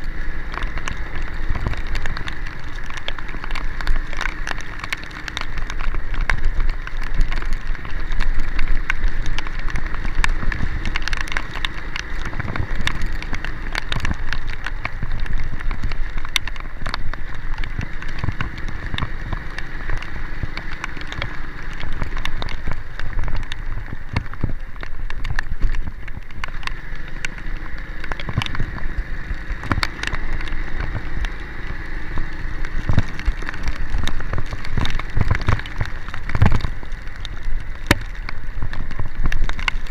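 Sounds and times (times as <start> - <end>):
heavy rain drops ticking: 0.0 - 39.9
moving vehicle rumble: 0.0 - 39.9.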